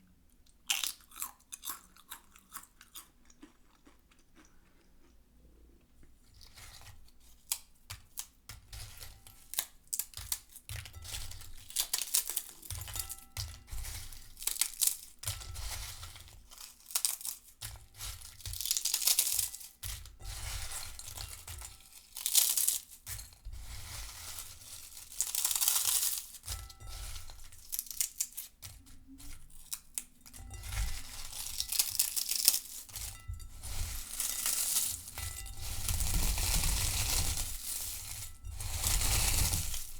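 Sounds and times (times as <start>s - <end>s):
potato chips rustling in a bowl: 0.5s - 5.1s, 6.1s - 39.9s.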